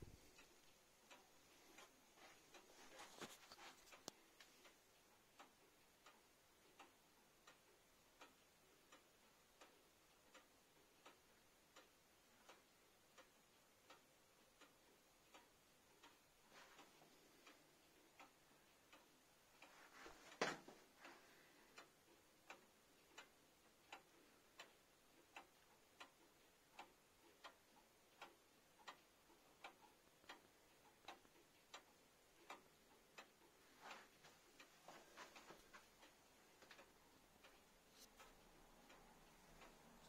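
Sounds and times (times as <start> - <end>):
pendulum clock ticking: 0.0 - 40.0.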